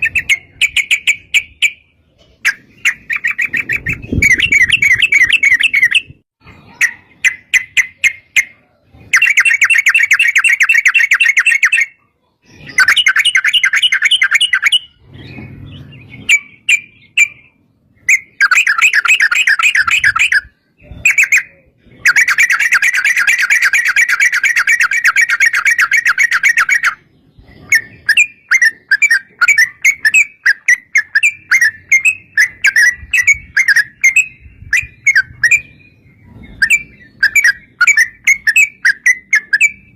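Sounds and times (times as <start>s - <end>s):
bird chirps: 0.0s - 39.9s
bulbuls singing bubbling songs: 0.0s - 39.9s.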